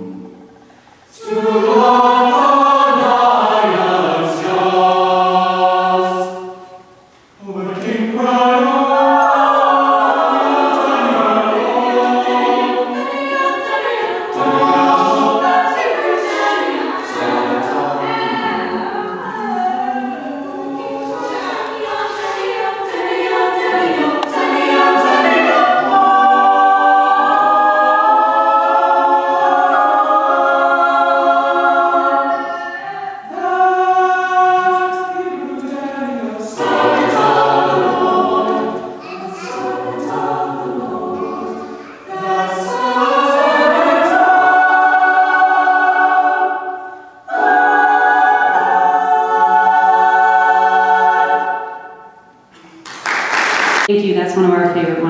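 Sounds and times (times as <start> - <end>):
choir singing in harmony: 0.0 - 53.9.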